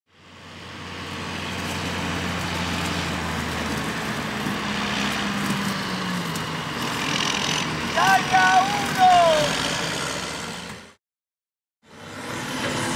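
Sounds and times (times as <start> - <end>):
heavy farm machinery running: 0.1 - 11.0, 11.9 - 12.9
low engine hum: 0.1 - 11.0.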